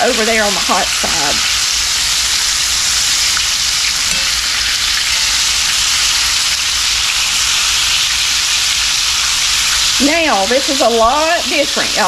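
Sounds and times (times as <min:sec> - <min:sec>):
chicken frying in skillet: 0:00.0 - 0:12.0.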